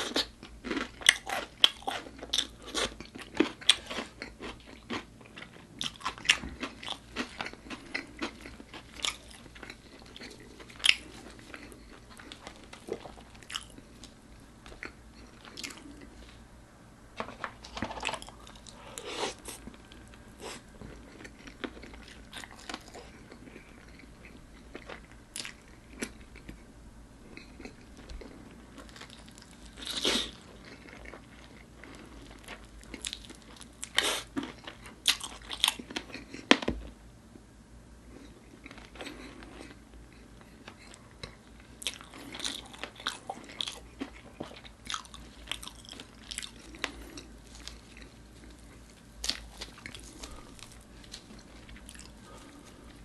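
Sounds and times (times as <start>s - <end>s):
crunchy chewing and biting: 0.0s - 16.2s, 17.4s - 36.6s, 38.1s - 53.0s.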